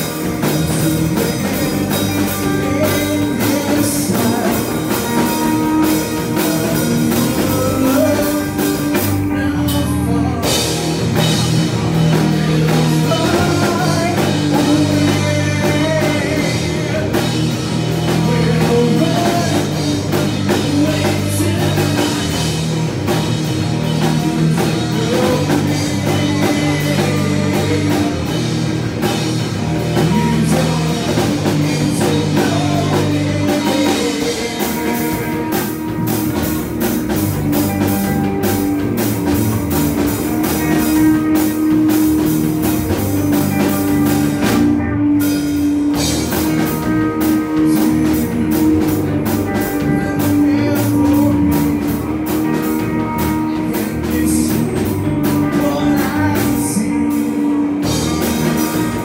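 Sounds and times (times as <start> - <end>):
bass guitar: 0.0 - 59.0
distorted electric guitars: 0.0 - 59.0
drum kit: 0.0 - 59.0
male singer: 0.0 - 59.0.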